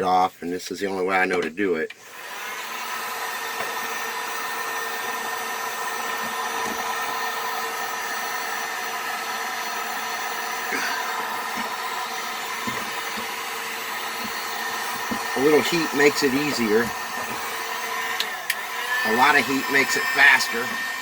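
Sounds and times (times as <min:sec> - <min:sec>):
heat gun fan whine: 0:01.3 - 0:21.0.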